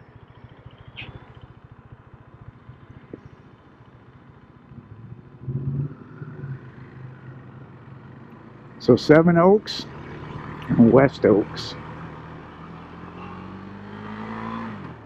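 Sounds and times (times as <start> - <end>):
vehicle engine idling and revving: 0.0 - 15.0.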